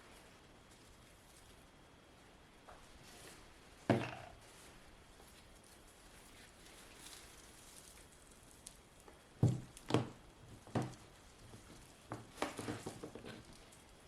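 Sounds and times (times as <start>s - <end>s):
crumbly soil rustles: 0.0s - 14.0s.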